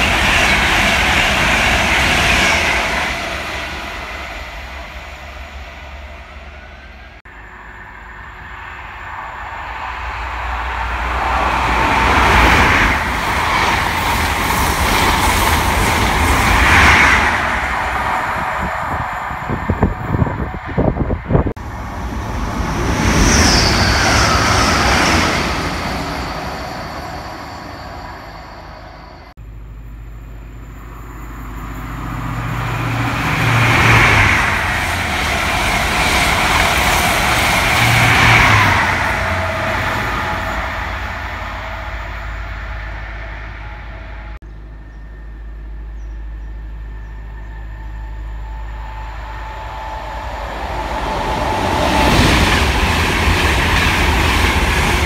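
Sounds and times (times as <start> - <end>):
approaching train rumble: 0.0 - 55.0
high-speed trains passing: 0.0 - 55.0.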